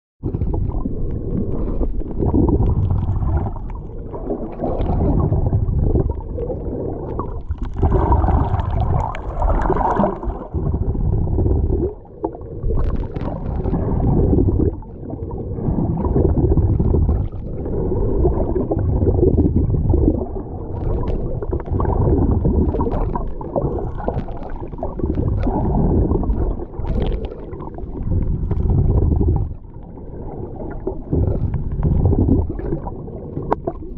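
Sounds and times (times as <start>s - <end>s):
sea water sloshing: 0.2s - 33.9s.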